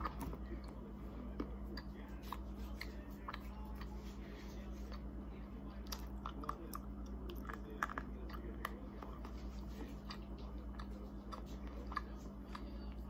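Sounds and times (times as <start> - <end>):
person chewing sweets: 0.0 - 13.0
steady low hum: 0.0 - 13.0.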